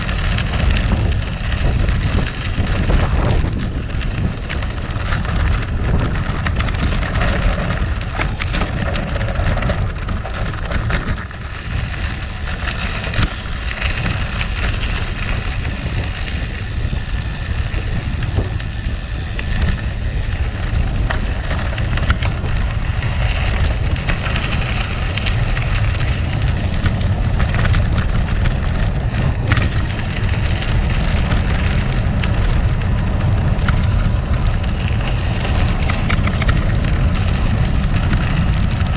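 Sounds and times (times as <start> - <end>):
bike tyres crunching on gravel: 0.0 - 38.9
small clicks and rattles: 0.0 - 38.9
wind buffeting microphone: 0.0 - 38.9.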